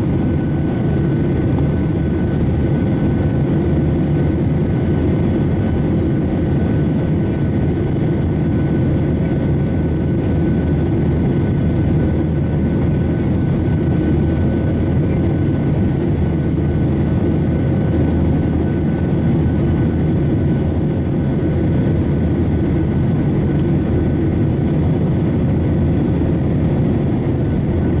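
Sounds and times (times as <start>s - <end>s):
jet engine rumble: 0.0s - 28.0s.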